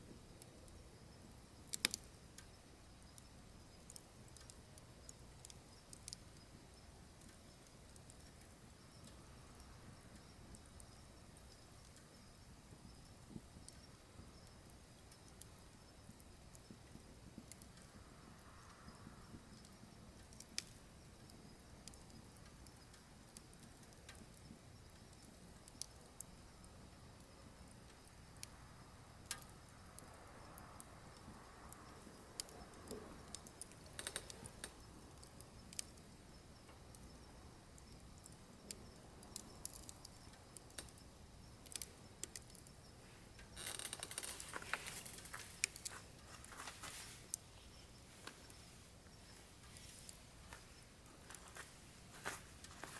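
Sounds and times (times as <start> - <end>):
firewood crackling and popping: 0.0 - 52.9
low rumble of flames: 0.0 - 52.9.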